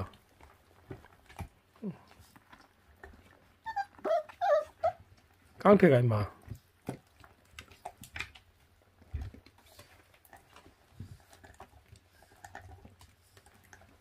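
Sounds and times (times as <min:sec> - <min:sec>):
puppies chewing meat: 0:00.0 - 0:05.6, 0:06.4 - 0:14.0.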